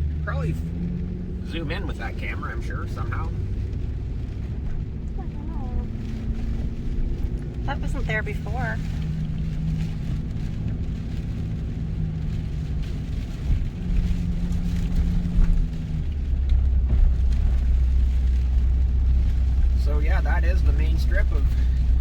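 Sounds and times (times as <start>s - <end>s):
car engine hum: 0.0s - 22.0s
deep engine rumble: 0.0s - 22.0s
road noise: 0.0s - 22.0s.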